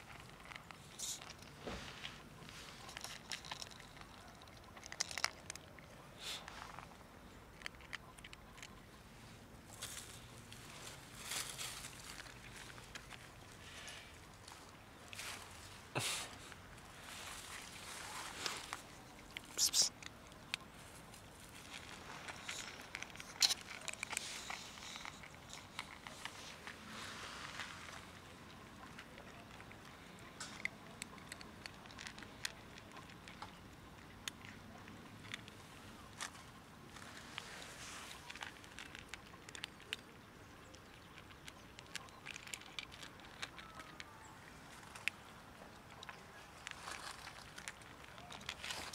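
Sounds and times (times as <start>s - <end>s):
cats crunching dry kibble: 0.0s - 48.9s.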